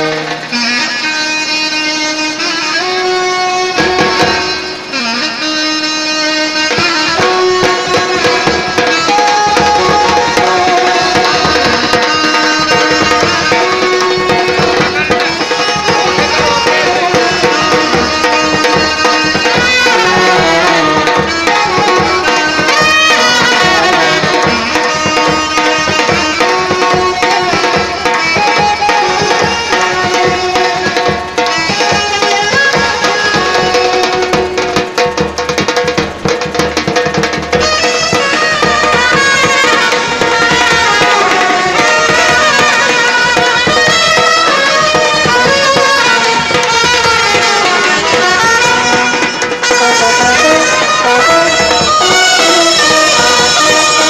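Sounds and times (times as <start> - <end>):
trumpets and saxophone melody: 0.0 - 35.4, 37.0 - 54.0
driving drum beat: 0.0 - 54.0.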